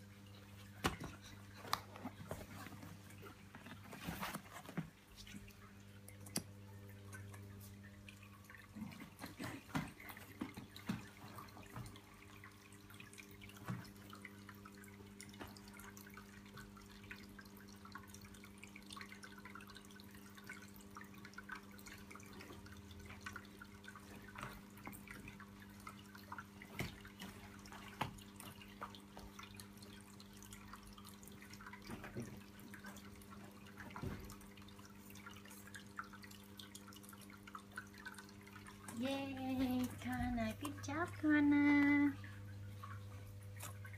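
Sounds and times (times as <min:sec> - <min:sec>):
faint electrical hum: 0:00.0 - 0:43.9.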